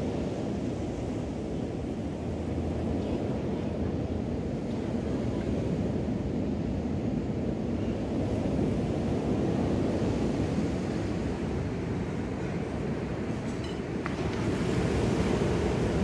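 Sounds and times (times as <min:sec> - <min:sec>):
waves breaking on sandy beach: 0:00.0 - 0:16.0.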